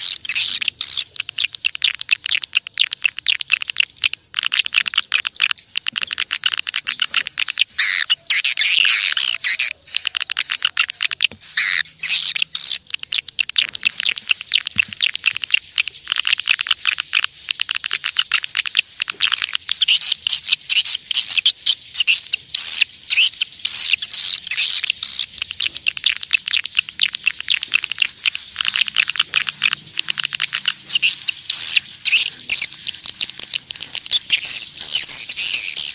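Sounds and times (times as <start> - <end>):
swiftlets twittering: 0.0 - 35.9.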